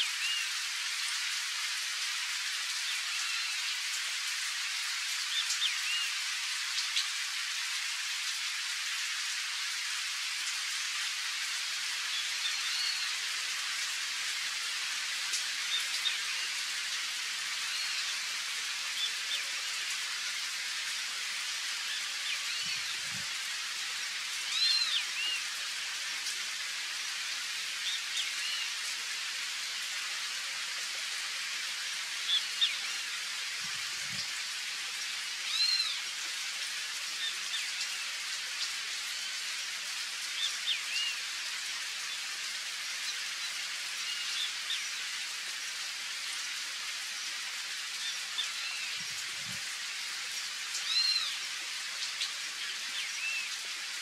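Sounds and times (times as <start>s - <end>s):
rain falling on water: 0.0s - 54.0s.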